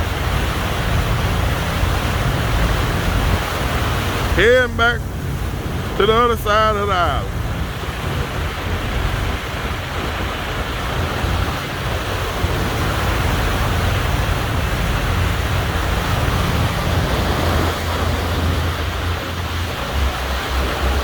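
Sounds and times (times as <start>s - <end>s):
boat rumble: 0.0s - 21.0s
river water rushing: 0.0s - 21.0s.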